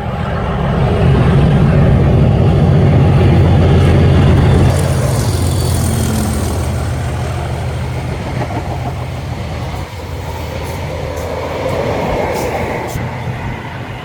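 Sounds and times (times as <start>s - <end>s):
diesel train engine rumble: 0.0s - 14.0s.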